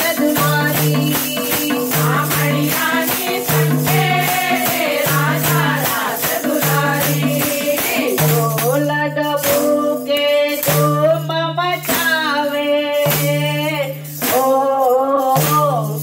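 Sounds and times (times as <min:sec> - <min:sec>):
women singing devotional song: 0:00.0 - 0:16.0.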